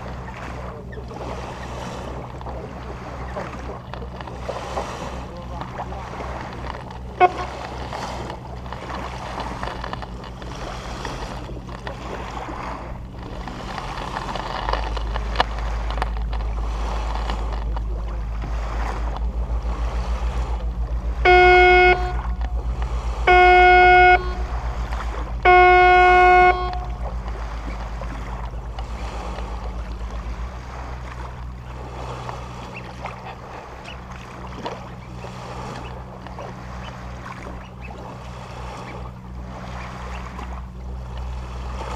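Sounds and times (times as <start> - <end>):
boat engine running: 0.0 - 41.9
boat horn blasts: 0.0 - 41.9
water noise: 0.0 - 41.9.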